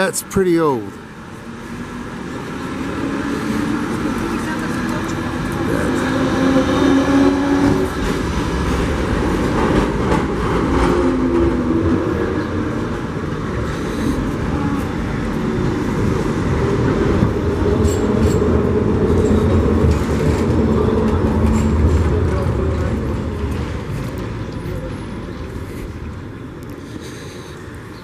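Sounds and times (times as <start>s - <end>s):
streetcar rumbling: 0.0s - 28.0s.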